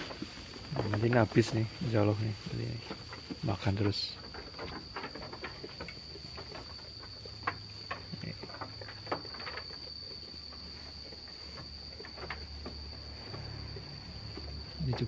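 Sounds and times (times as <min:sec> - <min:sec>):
sheep chewing dry straw: 0:00.0 - 0:14.8
high-pitched insect call: 0:00.0 - 0:15.0.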